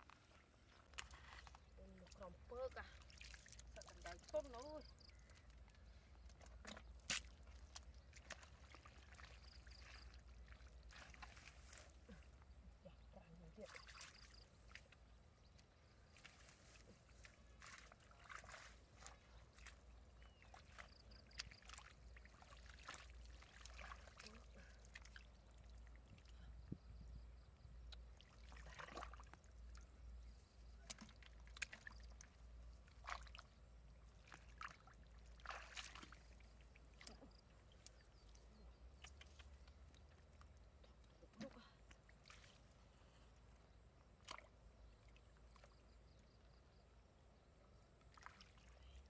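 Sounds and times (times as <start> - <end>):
hands sloshing in muddy water: 0.0 - 46.8, 47.7 - 49.0
legs wading through water: 0.0 - 46.8, 47.5 - 49.0.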